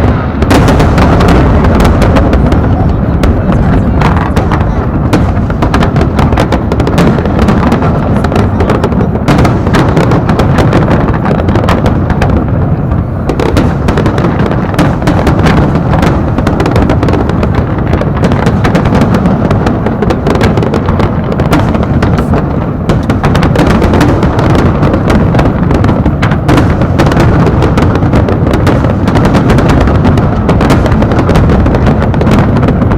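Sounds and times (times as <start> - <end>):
fireworks crackling: 0.0 - 32.9
fireworks shell bursts rumbling: 0.0 - 32.9.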